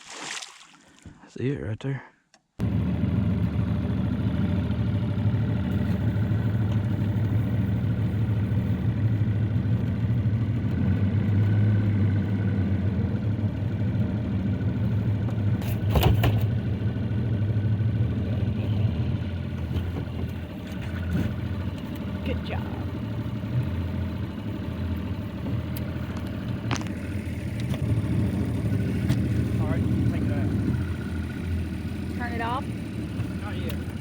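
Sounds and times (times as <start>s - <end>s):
outboard motor running: 2.6s - 34.0s.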